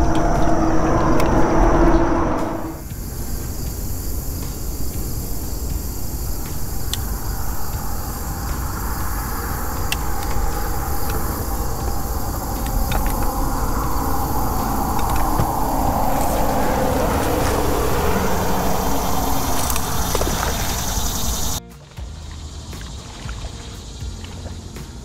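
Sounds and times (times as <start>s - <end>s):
low rumble: 0.0s - 24.6s
insect drone: 0.0s - 25.0s.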